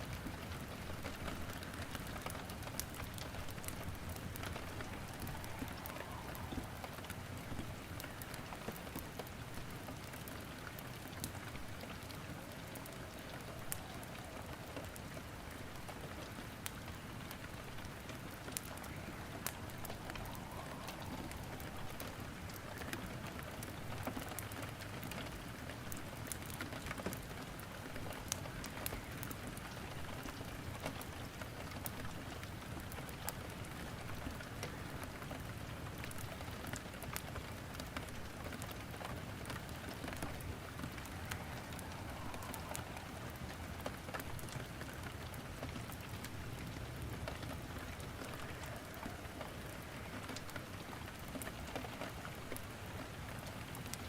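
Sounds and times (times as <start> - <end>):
firewood crackling and popping: 0.0 - 54.0
steady rain: 0.0 - 54.0.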